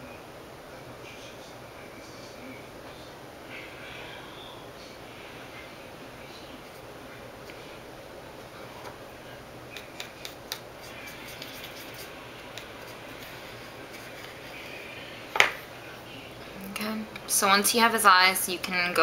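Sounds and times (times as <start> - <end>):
room hiss: 0.0 - 19.0.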